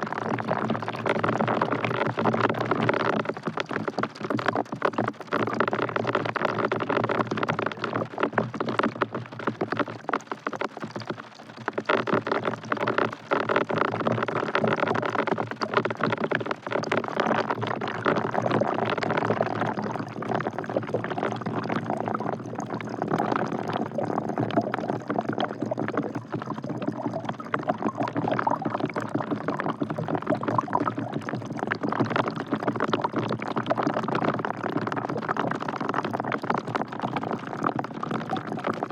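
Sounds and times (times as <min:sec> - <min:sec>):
rain splashing into a bucket: 0:00.0 - 0:38.9.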